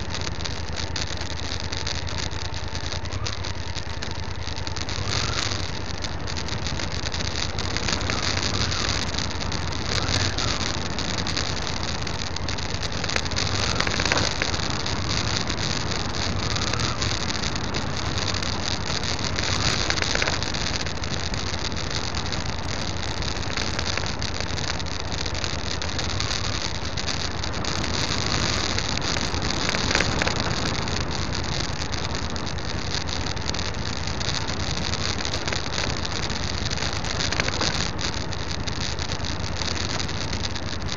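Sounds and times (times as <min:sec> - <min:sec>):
motorcycle engine running: 0:00.0 - 0:40.9
tyres hissing on gravel: 0:00.0 - 0:40.9
wind noise: 0:00.0 - 0:40.9.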